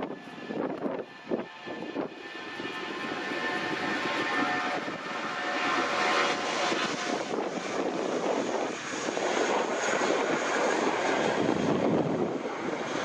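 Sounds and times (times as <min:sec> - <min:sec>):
jet engines at take-off power: 0:00.0 - 0:13.0.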